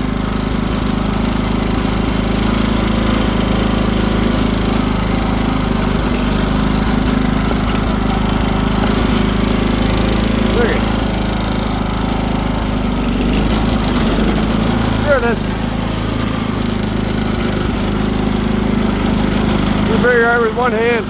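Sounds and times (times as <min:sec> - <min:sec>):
garden tractor engine running: 0:00.0 - 0:21.0.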